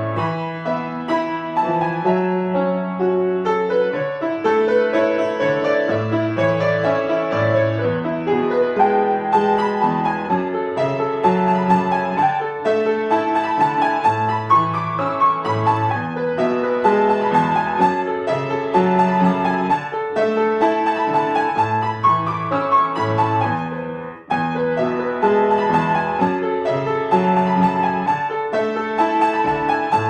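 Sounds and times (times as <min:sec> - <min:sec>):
solo piano music: 0:00.0 - 0:30.0.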